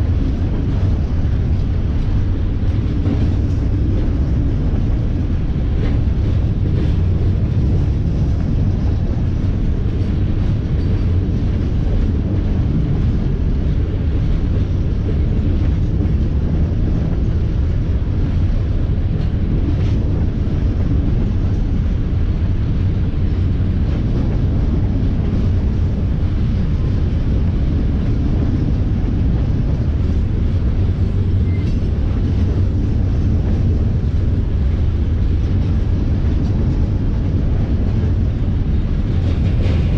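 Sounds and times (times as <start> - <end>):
train rolling past rumble: 0.0 - 39.9.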